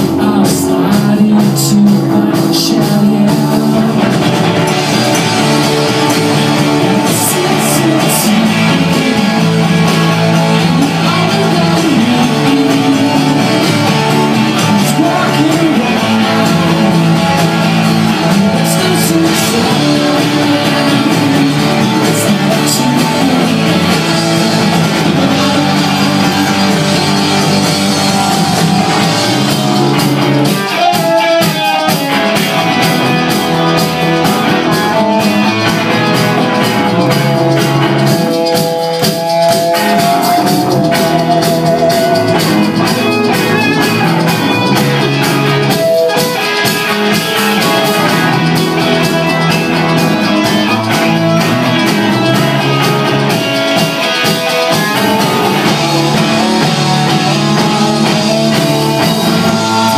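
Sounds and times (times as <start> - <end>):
held lead guitar notes: 0.0 - 59.9
rock band playing live: 0.0 - 59.9.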